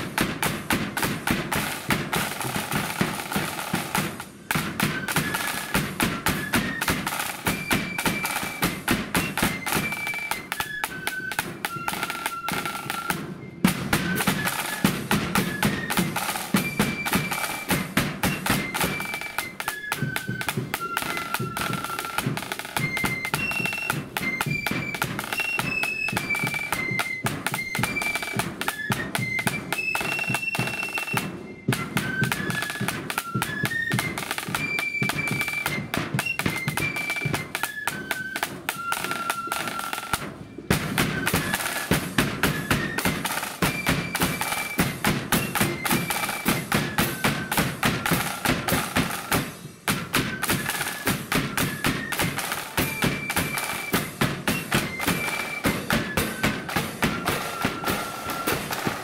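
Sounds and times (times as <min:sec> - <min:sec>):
cymbals: 0:00.0 - 0:59.0
flute melody: 0:00.0 - 0:59.0
rapid side drums: 0:00.0 - 0:59.0.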